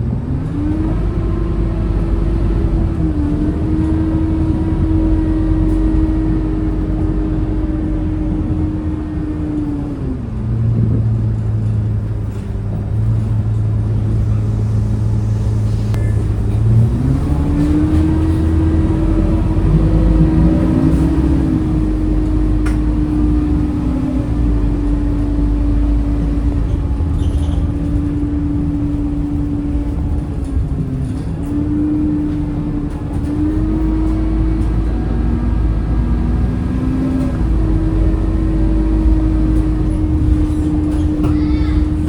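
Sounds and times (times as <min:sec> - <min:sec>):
bus diesel engine running: 0:00.0 - 0:42.0.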